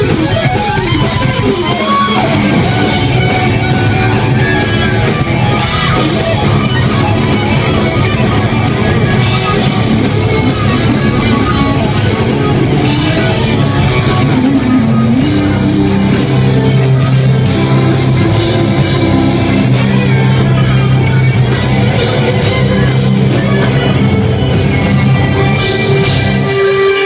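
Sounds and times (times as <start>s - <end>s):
electric guitar lead: 0.0s - 27.0s
live rock band playing: 0.0s - 27.0s.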